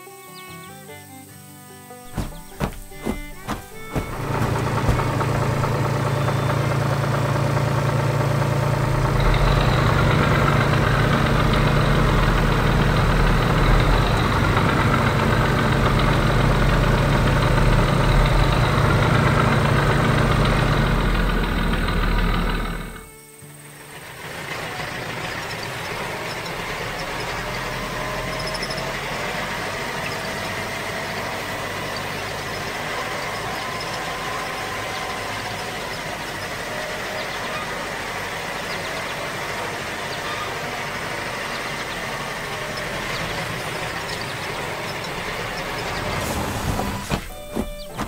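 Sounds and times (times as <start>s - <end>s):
large truck engine running: 2.1s - 48.0s.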